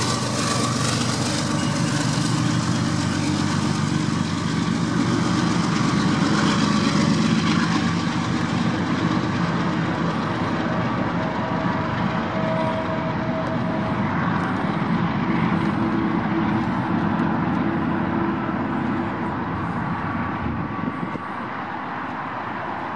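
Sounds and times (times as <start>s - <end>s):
freight train rumbling on rails: 0.0s - 22.9s.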